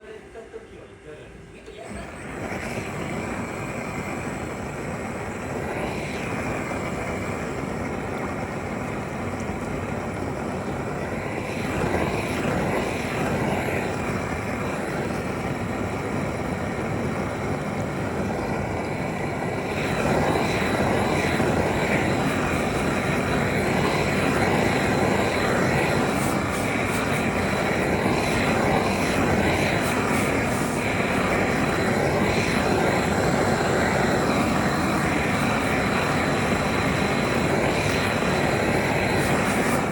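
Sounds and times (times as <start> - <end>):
factory machinery drone: 0.0 - 39.9.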